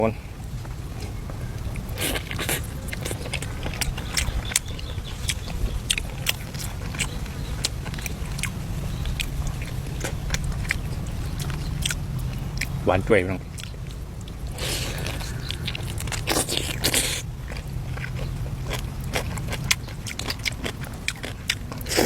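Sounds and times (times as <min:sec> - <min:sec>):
steady low rumble: 0:00.0 - 0:22.0
person chewing crunchy food: 0:01.0 - 0:12.8, 0:13.5 - 0:22.0.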